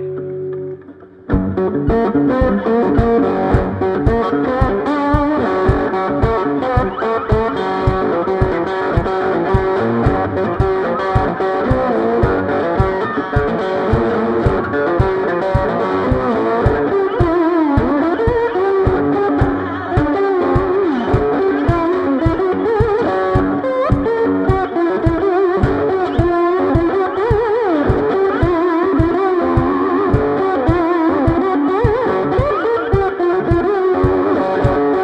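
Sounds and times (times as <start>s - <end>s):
amplified can banjo riff: 0.0s - 35.0s
low thumping beat: 0.5s - 35.0s.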